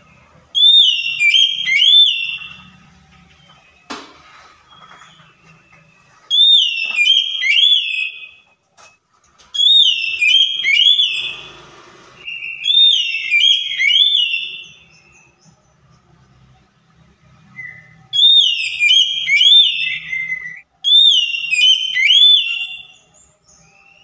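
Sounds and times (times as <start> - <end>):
bird singing whistled notes: 0.1 - 3.8, 4.7 - 8.6, 9.6 - 11.5, 12.2 - 15.9, 17.4 - 24.0.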